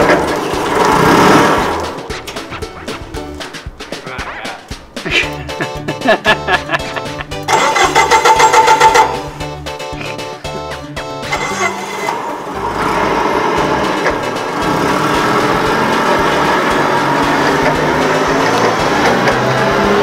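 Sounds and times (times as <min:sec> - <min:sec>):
forklift engine running: 0:00.0 - 0:04.0, 0:06.8 - 0:20.0
music: 0:00.0 - 0:20.0.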